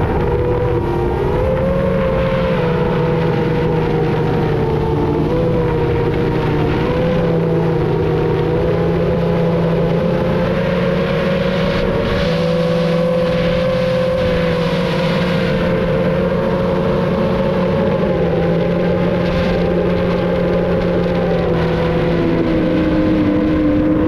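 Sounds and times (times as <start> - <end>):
rushing wind: 0.0 - 24.0.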